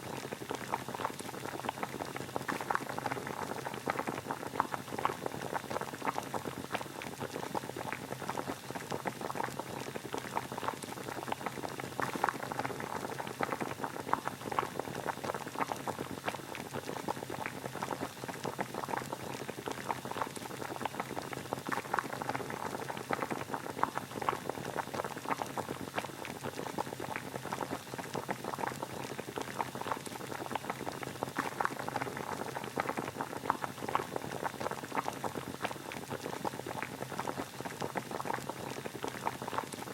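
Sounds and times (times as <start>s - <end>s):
water boiling and bubbling: 0.0s - 39.9s.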